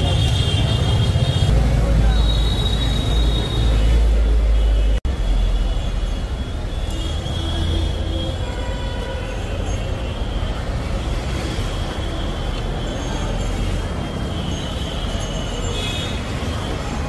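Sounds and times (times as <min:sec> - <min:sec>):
market crowd and traffic: 0:00.0 - 0:17.0.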